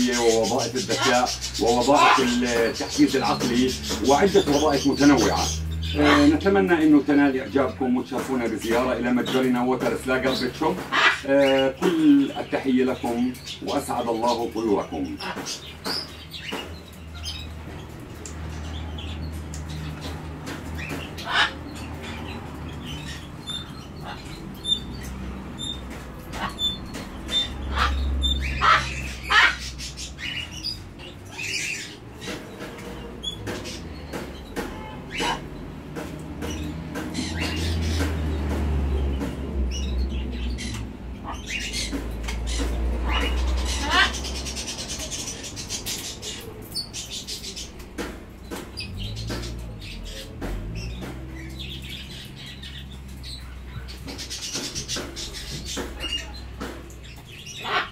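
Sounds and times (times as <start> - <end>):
birds squawking: 0.0 - 57.9.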